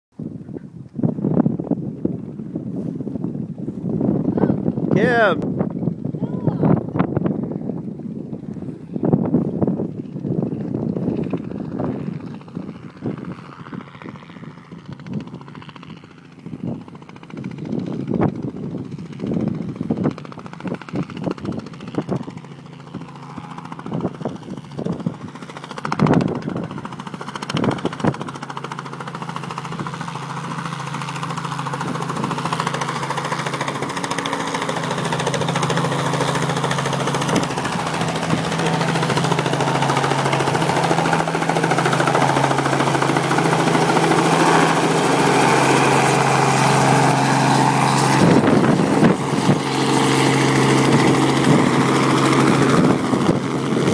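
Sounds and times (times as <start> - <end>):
helicopter engine and rotor: 0.8 - 53.9.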